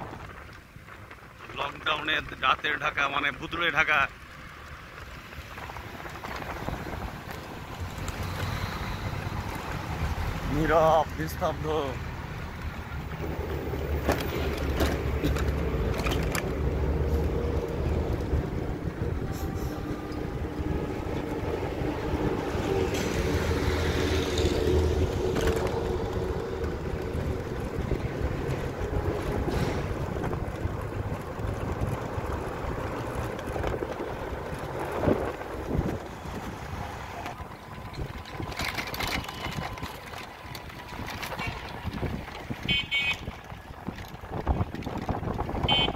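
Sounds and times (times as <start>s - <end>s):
vehicle engine running: 1.8s - 45.9s.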